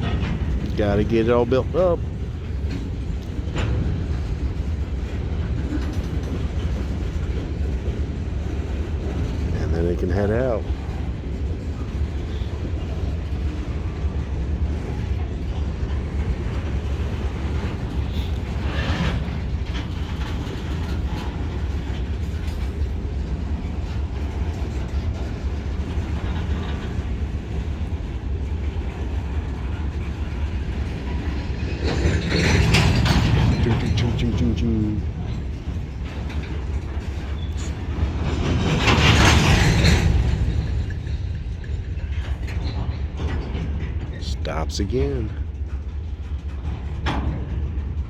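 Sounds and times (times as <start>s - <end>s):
diesel locomotive rumble: 0.0s - 48.0s
freight cars rolling: 0.0s - 48.0s.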